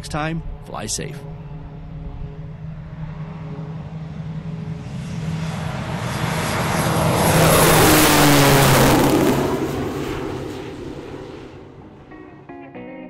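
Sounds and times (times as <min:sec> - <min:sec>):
propeller airplane flying past: 0:00.0 - 0:12.6.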